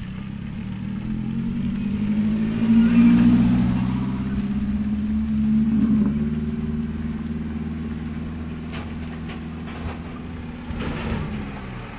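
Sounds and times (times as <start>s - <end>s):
diesel truck engine droning: 0.0s - 11.9s.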